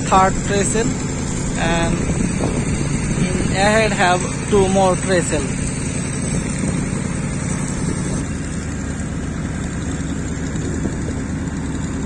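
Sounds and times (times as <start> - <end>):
engine droning with hiss: 0.0 - 12.0.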